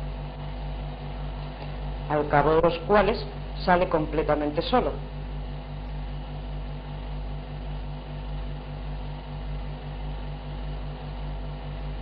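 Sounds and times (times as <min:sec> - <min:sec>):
pulsing electrical hum and hiss: 0:00.0 - 0:12.0.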